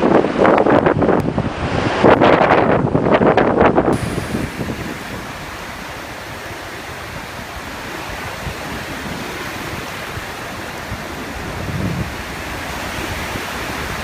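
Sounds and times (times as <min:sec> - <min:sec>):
rushing storm water: 0:00.0 - 0:14.0
wind: 0:00.0 - 0:14.0.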